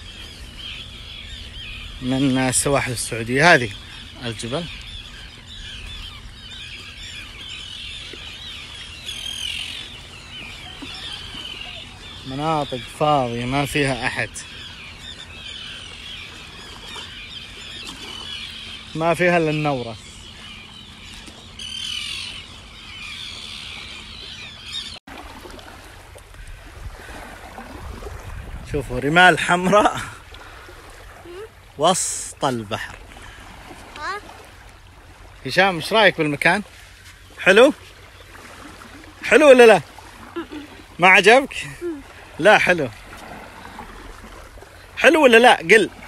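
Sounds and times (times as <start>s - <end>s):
gulls calling: 0.0s - 46.0s.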